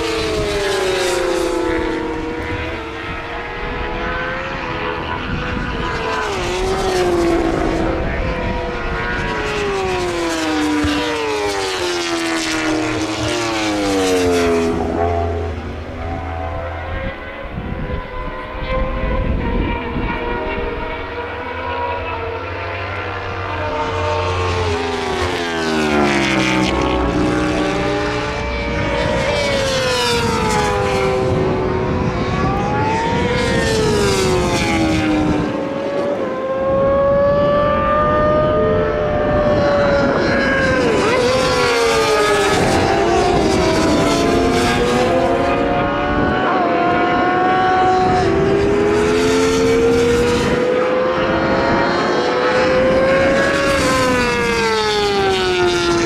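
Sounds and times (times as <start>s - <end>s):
racing motorcycles passing: 0.0s - 56.0s.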